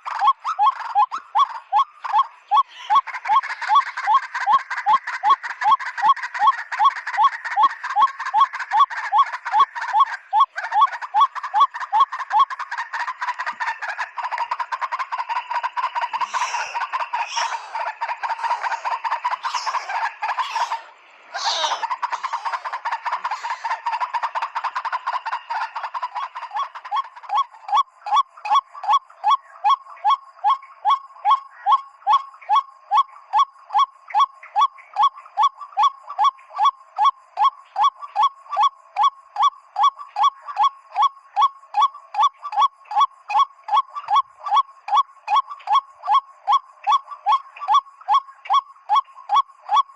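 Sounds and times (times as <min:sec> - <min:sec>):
waterhen calls: 0:00.0 - 0:49.9.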